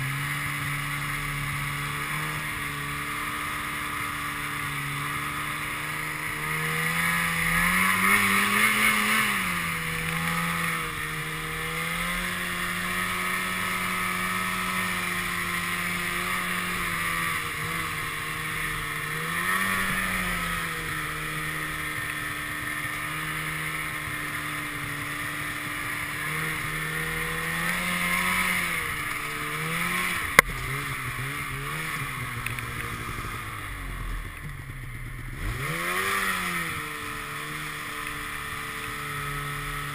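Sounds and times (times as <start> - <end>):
snowmobile engine under throttle: 0.0 - 39.9.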